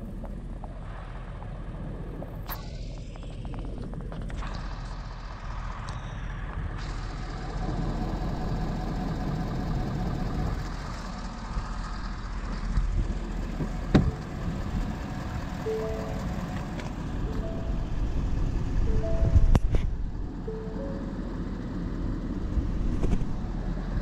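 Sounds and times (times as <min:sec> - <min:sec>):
vehicle traffic rumble: 0:00.0 - 0:24.0.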